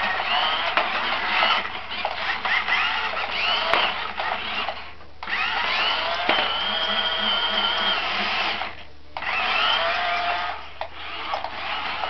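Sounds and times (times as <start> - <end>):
toy car electric motors whining: 0.0 - 12.0.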